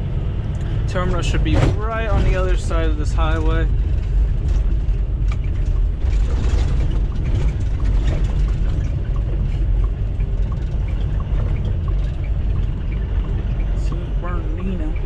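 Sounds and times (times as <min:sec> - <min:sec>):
truck engine and road rumble: 0:00.0 - 0:15.0
light rattles: 0:00.5 - 0:15.0.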